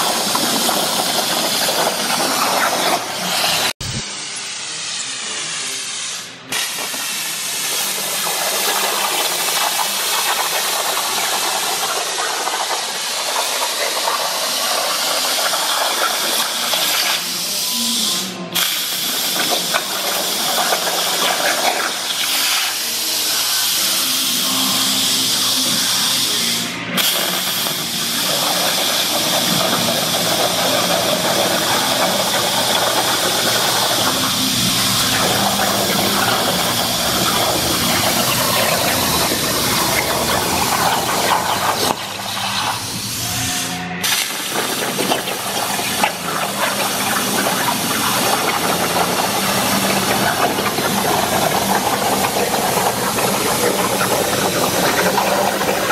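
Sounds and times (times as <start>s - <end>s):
plasma torch hissing: 0.0s - 55.9s.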